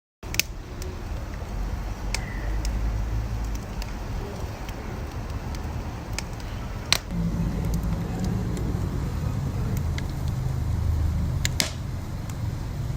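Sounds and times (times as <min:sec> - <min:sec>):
wood fire crackling: 0:00.2 - 0:12.9
low steady rumble: 0:00.5 - 0:12.9.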